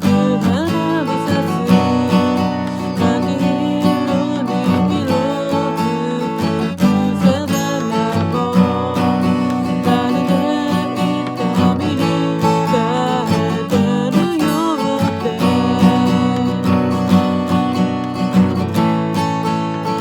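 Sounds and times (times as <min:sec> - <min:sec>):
person singing: 0:00.0 - 0:18.0
acoustic guitar strumming: 0:00.0 - 0:20.0.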